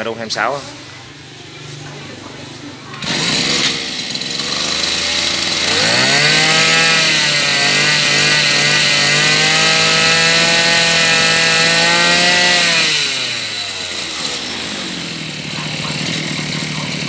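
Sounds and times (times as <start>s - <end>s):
brush cutter engine revving: 2.9s - 17.0s.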